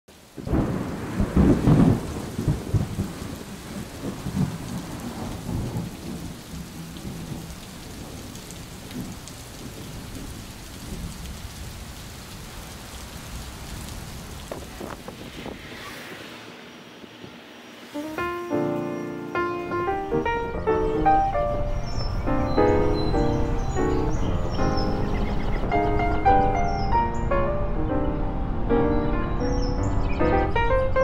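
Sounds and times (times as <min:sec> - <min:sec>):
rain hissing: 0:00.1 - 0:30.0
thunder rumble: 0:00.4 - 0:18.3, 0:19.7 - 0:31.0.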